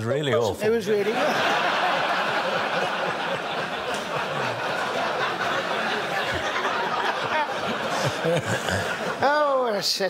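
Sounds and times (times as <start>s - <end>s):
audience laughing: 0.8s - 9.2s.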